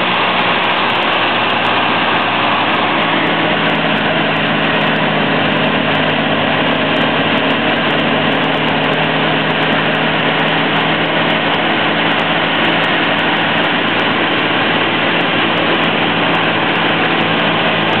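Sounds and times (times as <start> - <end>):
aircraft engine and propeller: 0.0 - 18.0
airflow rush: 0.0 - 18.0.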